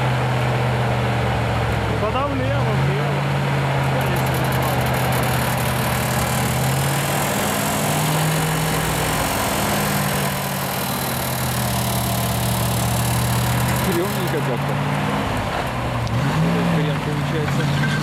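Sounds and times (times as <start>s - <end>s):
truck engine running under load: 0.0s - 18.0s.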